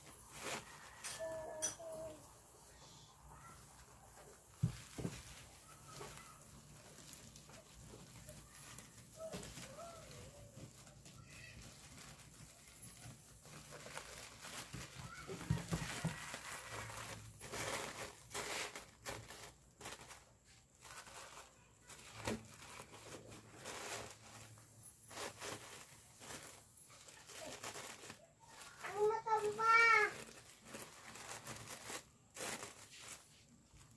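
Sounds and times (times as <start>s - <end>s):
burlap wrapping rustling and crinkling: 0.0s - 33.9s.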